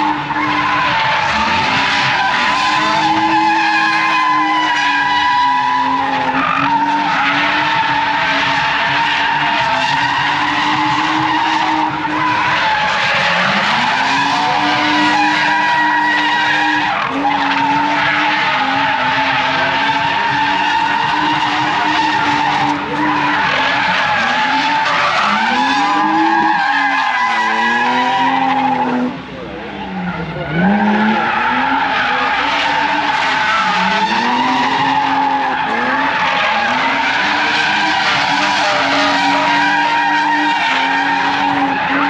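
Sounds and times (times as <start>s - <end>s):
car engine at high revs: 0.0s - 42.0s
tyre screech: 0.0s - 42.0s.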